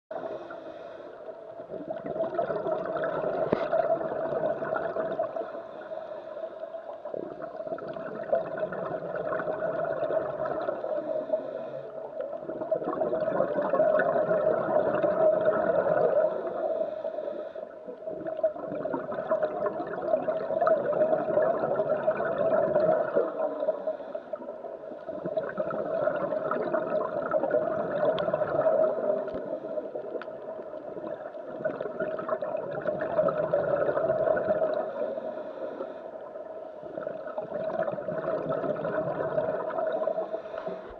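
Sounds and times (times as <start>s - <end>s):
scuba regulator bubbles underwater: 0.1s - 40.9s.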